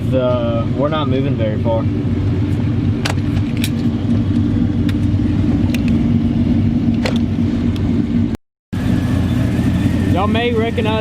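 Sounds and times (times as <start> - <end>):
pickup truck engine idling: 1.5 - 11.0.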